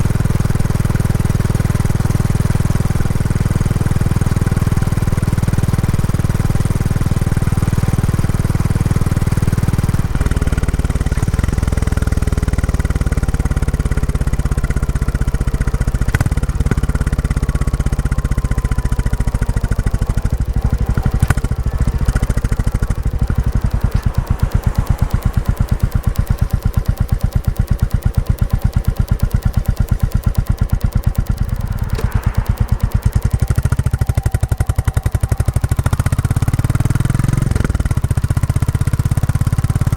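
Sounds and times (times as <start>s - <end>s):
single-cylinder motorcycle engine: 0.0s - 39.9s.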